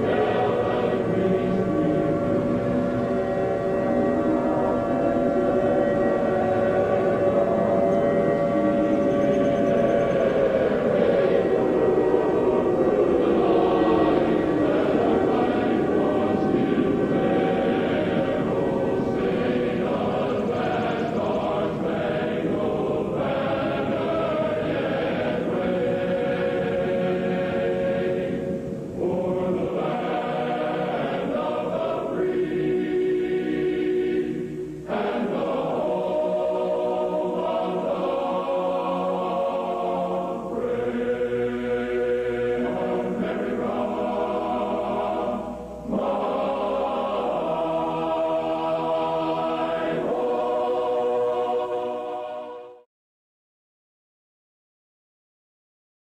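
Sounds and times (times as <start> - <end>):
choir singing sustained chords: 0.0 - 52.9.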